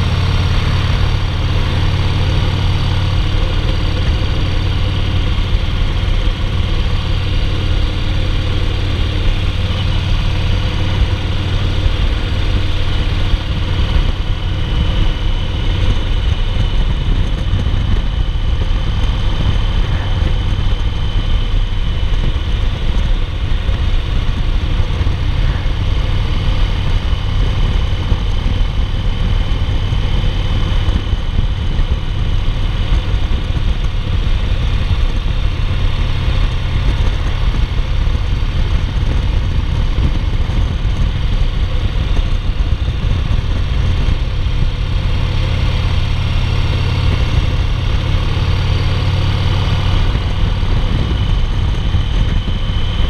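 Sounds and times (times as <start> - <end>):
motorcycle engine rumbling: 0.0 - 53.0
wind noise: 0.0 - 53.0.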